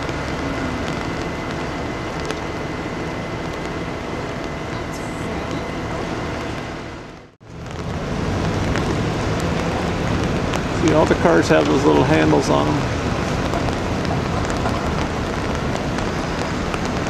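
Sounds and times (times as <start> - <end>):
low engine rumble: 0.0 - 17.0
rain: 0.0 - 17.0.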